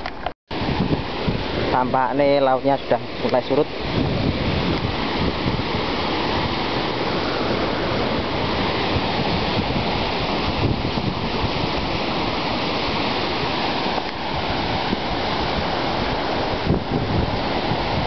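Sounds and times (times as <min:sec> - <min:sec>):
wind buffeting microphone: 0:00.0 - 0:18.0
surf breaking on rocks: 0:00.5 - 0:18.0.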